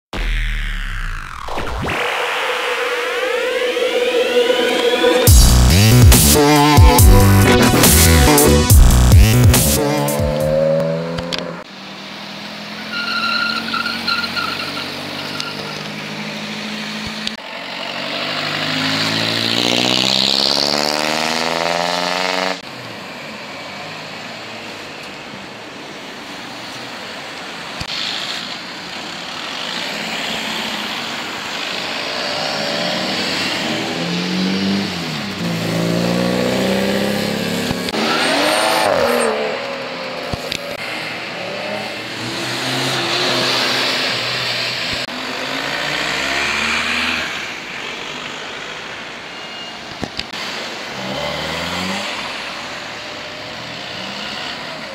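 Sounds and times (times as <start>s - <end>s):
car engines revving hard: 3.4s - 25.4s, 26.0s - 54.9s.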